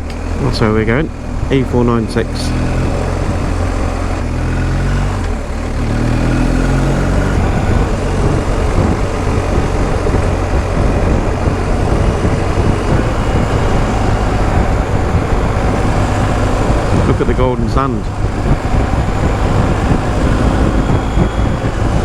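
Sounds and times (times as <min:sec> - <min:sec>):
motorcycle engine pulling: 0:00.0 - 0:22.0
wind rush on microphone: 0:00.0 - 0:22.0.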